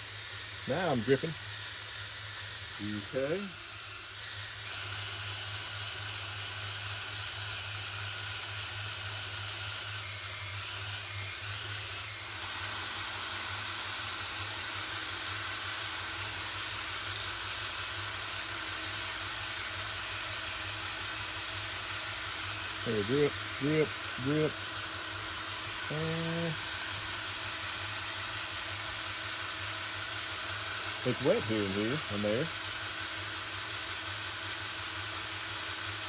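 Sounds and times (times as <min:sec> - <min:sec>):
oil pump hissing: 0:00.0 - 0:36.0.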